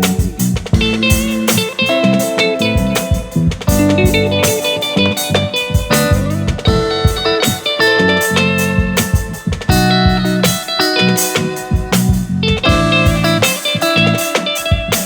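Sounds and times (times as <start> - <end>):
instrumental band music: 0.0 - 15.0.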